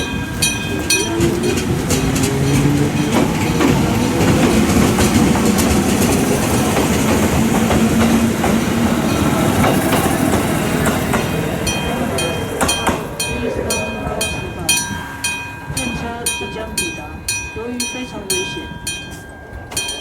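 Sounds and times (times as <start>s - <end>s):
crossing warning bell ringing: 0.0s - 20.0s
train wheels clicking over rail joints: 0.0s - 20.0s.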